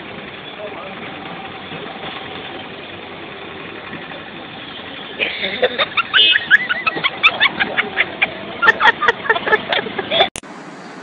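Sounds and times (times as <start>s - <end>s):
auto-rickshaw engine idling: 0.0s - 11.0s
street noise: 0.0s - 11.0s.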